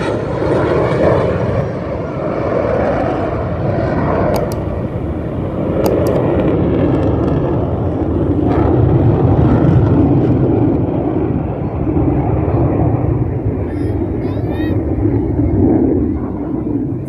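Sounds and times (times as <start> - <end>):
aircraft engine roar: 0.0 - 17.0.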